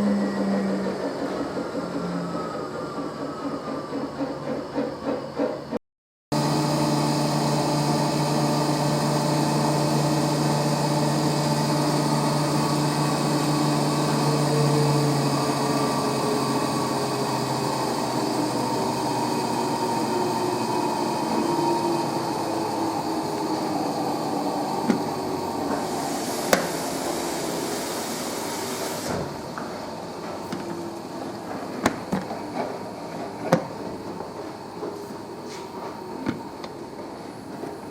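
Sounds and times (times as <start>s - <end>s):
washing machine spinning: 0.0s - 5.3s, 6.4s - 37.9s.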